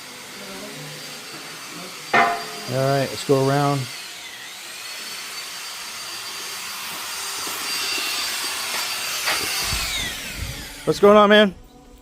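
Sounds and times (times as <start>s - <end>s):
power tool motor whining: 0.0s - 12.0s.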